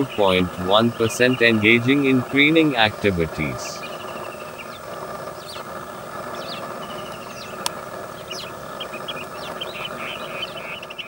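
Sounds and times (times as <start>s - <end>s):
birds chirping: 0.0s - 11.0s
rapid bird trills: 0.0s - 11.0s
steady background hum: 0.0s - 11.0s.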